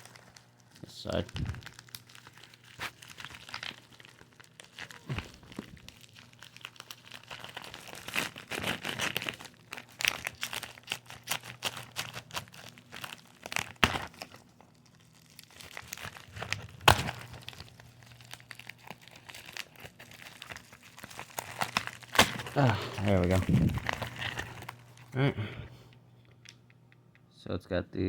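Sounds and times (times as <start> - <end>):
packaging crinkling and tearing: 0.0 - 25.3.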